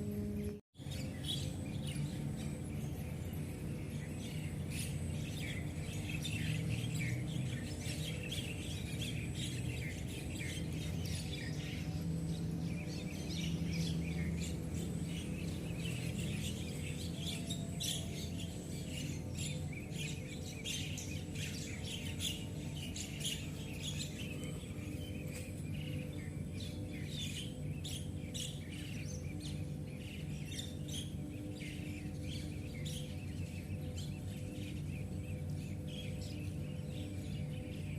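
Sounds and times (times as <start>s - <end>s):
birds chirping: 0.0s - 37.9s
steady low hum: 0.0s - 37.9s.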